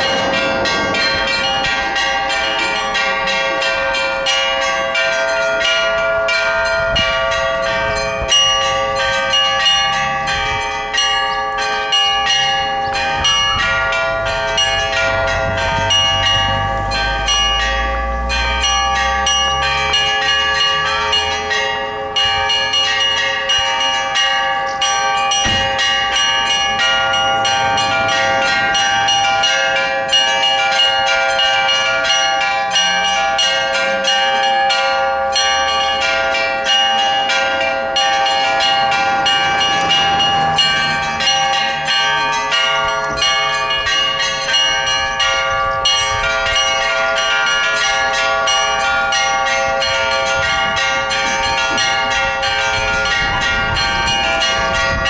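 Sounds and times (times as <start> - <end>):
large bells humming: 0.0 - 55.0
small bells rapid strikes: 0.0 - 55.0.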